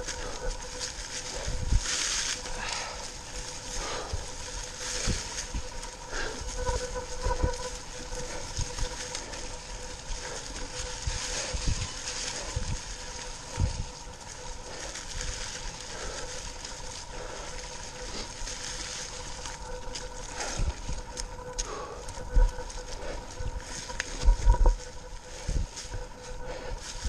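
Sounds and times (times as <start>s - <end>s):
bike tyres crunching leaves: 0.0s - 27.0s.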